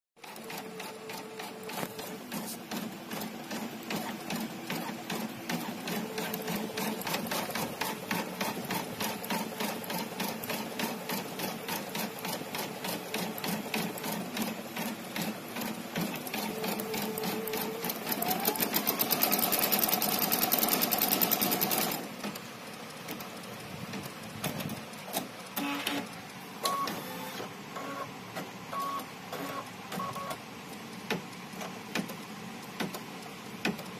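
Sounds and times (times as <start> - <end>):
embroidery machine stitching: 0.2 - 22.5, 23.1 - 28.0.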